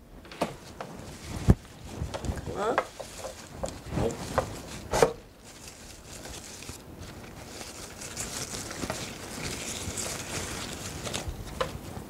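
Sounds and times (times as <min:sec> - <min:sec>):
leaves rustling: 0:00.6 - 0:12.0.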